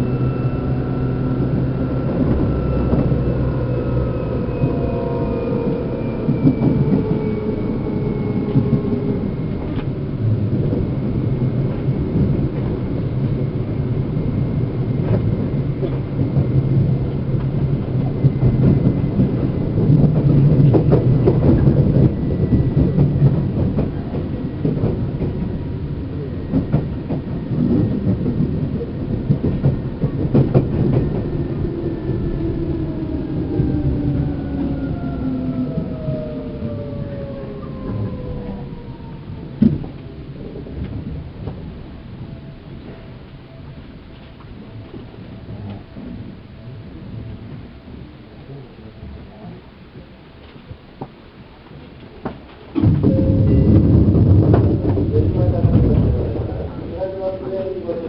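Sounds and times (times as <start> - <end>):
train underfloor rumble: 0.0 - 58.0.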